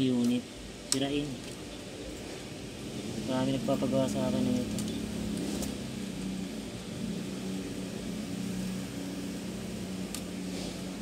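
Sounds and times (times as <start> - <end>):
background hiss: 0.0 - 11.0
low mechanical hum: 0.0 - 11.0.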